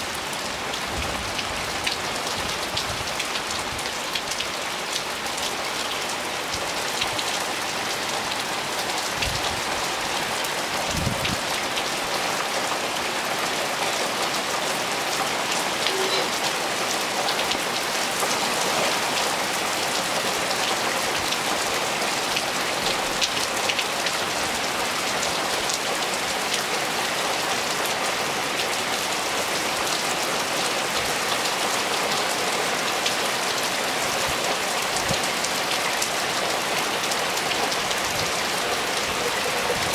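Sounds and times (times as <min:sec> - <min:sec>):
hard rain falling into water: 0:00.0 - 0:39.9.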